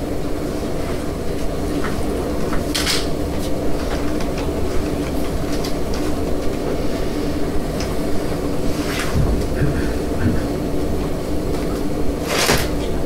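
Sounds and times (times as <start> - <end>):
faint hum: 0.0 - 13.0
steady low rumble: 0.0 - 13.0.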